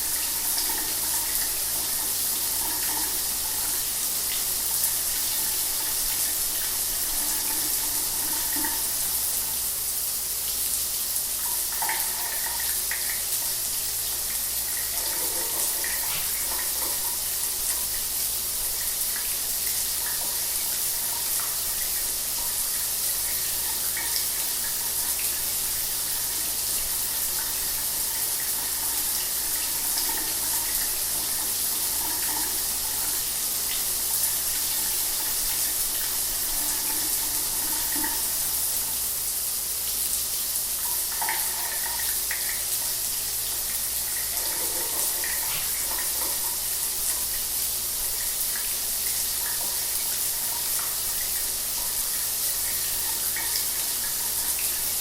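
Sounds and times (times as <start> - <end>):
shower water spraying: 0.0 - 55.0.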